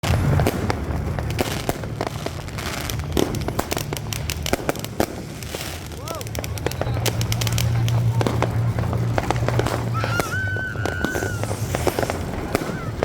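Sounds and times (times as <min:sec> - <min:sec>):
distant fireworks explosions: 0:00.0 - 0:13.0
firecrackers banging: 0:00.0 - 0:13.0.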